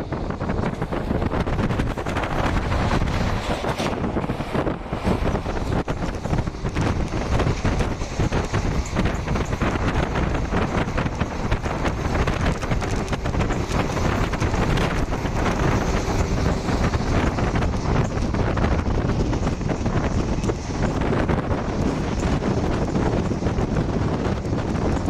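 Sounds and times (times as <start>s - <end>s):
moving train running noise: 0.0s - 25.0s
wind on microphone: 0.0s - 25.0s.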